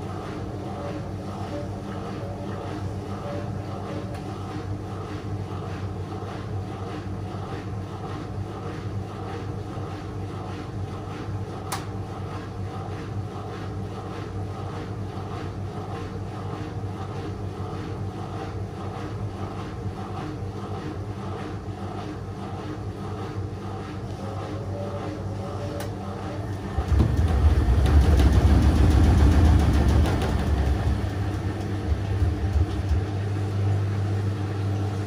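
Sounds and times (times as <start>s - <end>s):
washing machine running: 0.0s - 35.0s.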